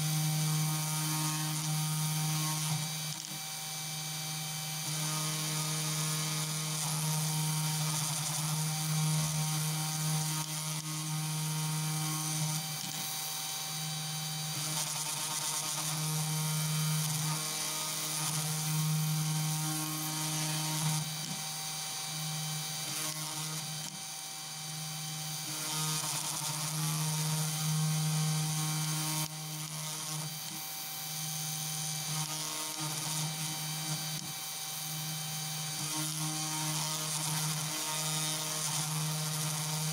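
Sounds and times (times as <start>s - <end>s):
router spindle motor whining: 0.0s - 39.9s.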